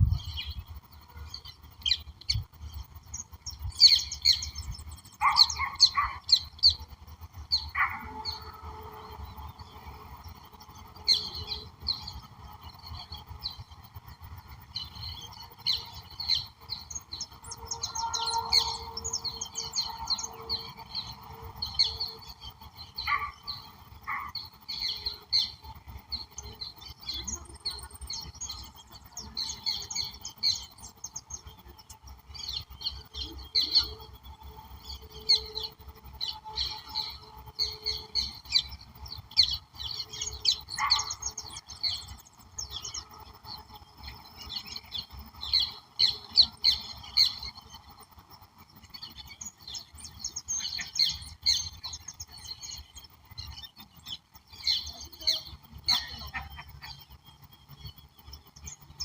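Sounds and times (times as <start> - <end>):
birds chirping and singing: 0.0 - 59.0
faint background hum: 0.0 - 59.0.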